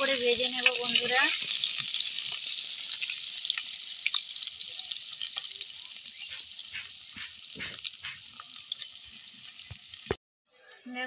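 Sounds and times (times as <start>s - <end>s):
potatoes sizzling in oil: 0.0s - 10.2s.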